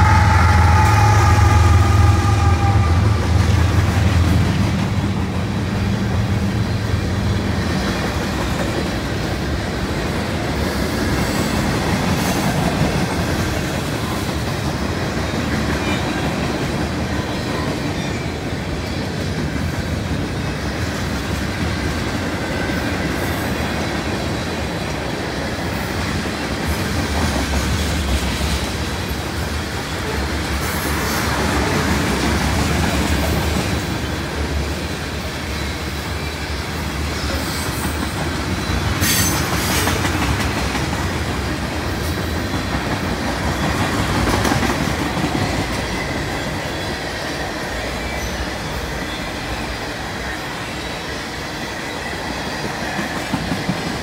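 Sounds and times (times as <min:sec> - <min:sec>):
diesel locomotive engine hum: 0:00.0 - 0:54.0
freight train wheels clacking: 0:00.0 - 0:54.0.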